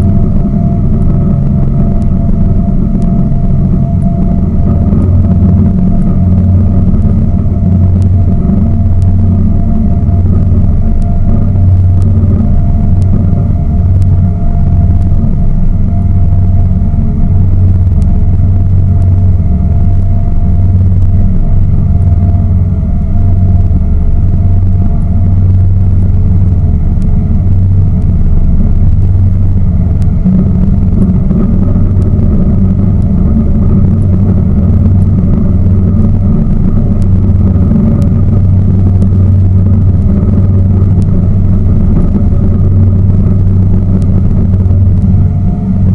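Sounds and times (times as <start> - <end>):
boat engine rumbling: 0.0 - 45.9.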